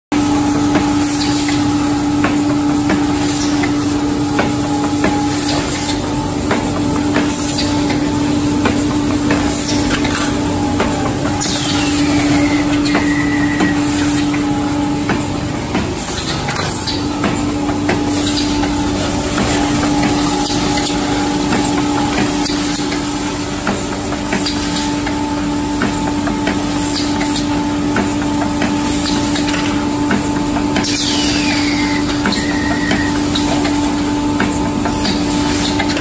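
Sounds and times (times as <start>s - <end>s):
machine hum: 0.2s - 36.0s
machine clanks and knocks: 0.7s - 36.0s.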